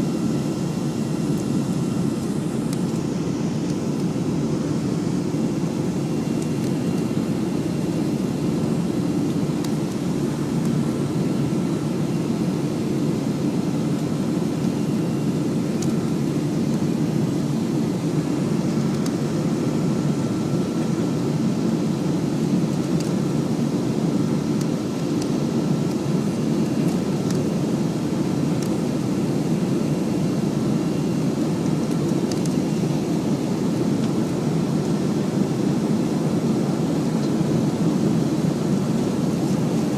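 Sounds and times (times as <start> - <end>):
airplane cabin roar: 0.0 - 39.9
faint high whine: 0.0 - 39.9.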